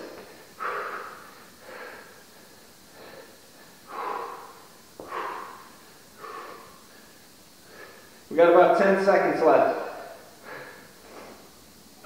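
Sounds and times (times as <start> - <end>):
man breathing hard: 0.0 - 8.3, 9.8 - 11.6.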